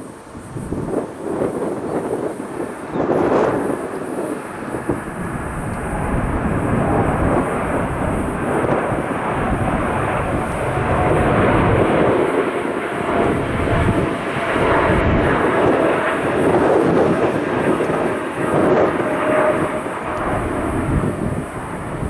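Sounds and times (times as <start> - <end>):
airliner engines roaring: 0.0 - 22.0
wind buffeting microphone: 0.0 - 22.0.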